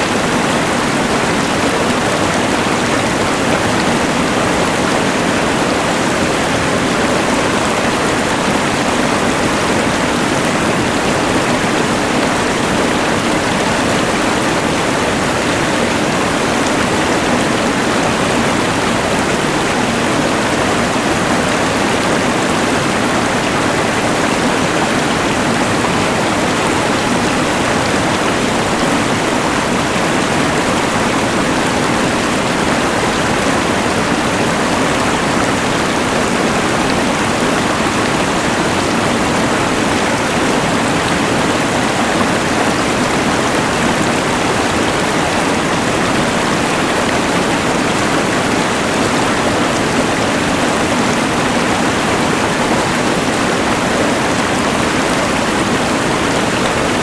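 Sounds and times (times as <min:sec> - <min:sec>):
rushing river: 0:00.0 - 0:57.0.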